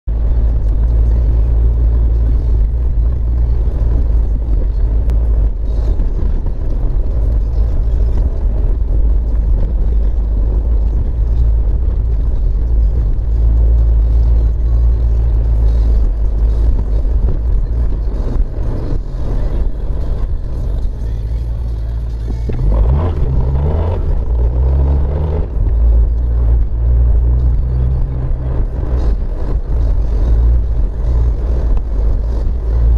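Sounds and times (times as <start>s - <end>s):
car engine inside cabin: 0.0s - 32.9s
tyres on wet road: 0.1s - 32.9s.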